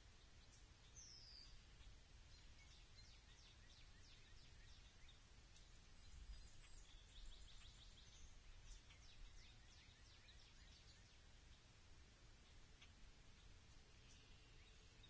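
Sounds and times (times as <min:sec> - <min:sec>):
low outdoor background noise: 0:00.0 - 0:15.0
small birds chirping: 0:00.0 - 0:15.0.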